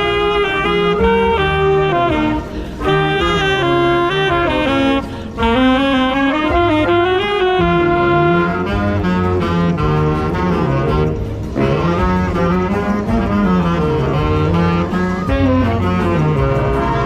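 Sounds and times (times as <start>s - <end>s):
alto saxophone melody: 0.0s - 17.0s
wind and brass band playing: 0.0s - 17.0s.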